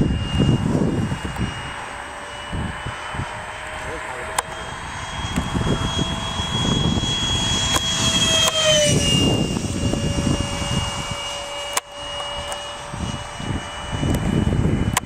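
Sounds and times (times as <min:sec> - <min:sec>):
gusty low rumble: 0:00.0 - 0:15.0
model airplane motor whining: 0:00.0 - 0:15.0.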